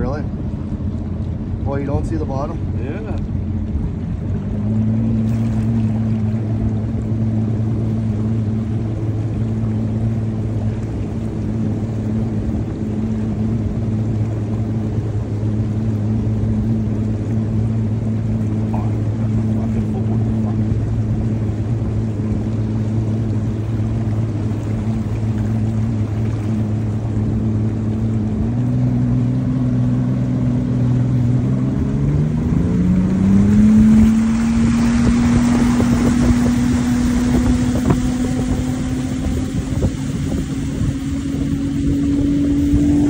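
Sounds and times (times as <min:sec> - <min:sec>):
outboard motor drone: 0:00.0 - 0:43.0
water rushing along hull: 0:00.0 - 0:43.0.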